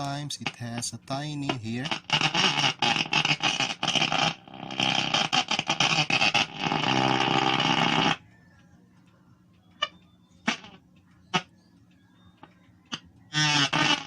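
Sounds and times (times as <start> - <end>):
radio static and crackling: 0.0 - 8.5, 9.8 - 11.6, 12.5 - 14.0.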